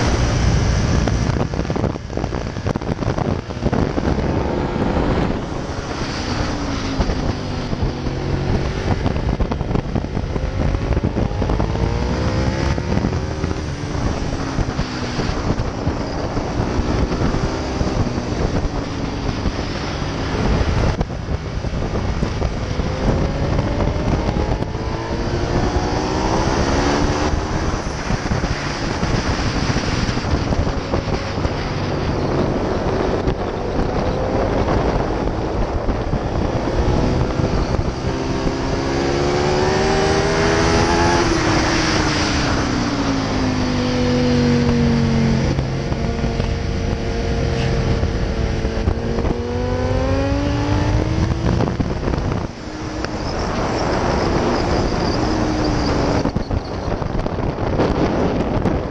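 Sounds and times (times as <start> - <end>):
motorcycle engine accelerating: 0.0 - 58.9
wind rush on microphone: 0.0 - 58.9.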